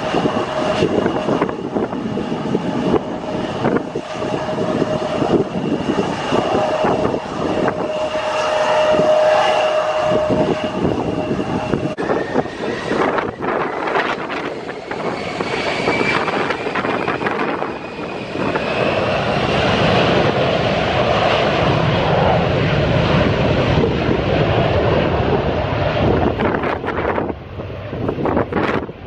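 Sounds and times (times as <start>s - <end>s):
airliner engine noise: 0.0s - 29.0s.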